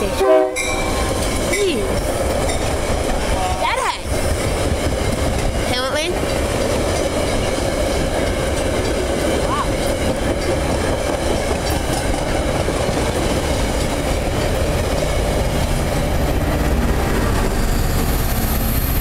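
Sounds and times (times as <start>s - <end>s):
diesel locomotive passing: 0.0s - 19.0s
train wheels rumbling on rails: 0.0s - 19.0s.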